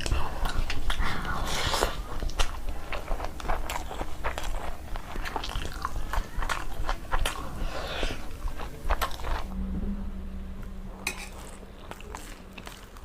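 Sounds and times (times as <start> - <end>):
person chewing with mouth clicks: 0.0 - 9.5, 11.3 - 13.0.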